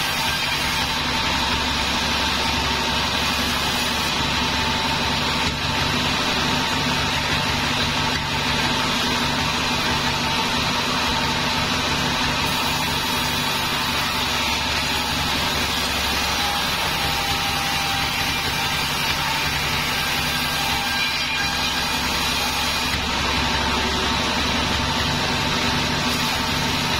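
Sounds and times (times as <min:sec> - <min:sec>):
band saw cutting wood: 0:00.0 - 0:26.9.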